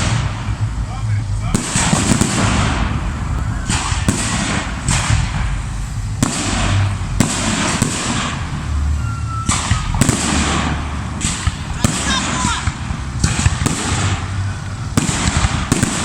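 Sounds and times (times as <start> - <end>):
fireworks bangs: 0.0 - 16.0
hiss after fireworks bangs: 1.5 - 16.0.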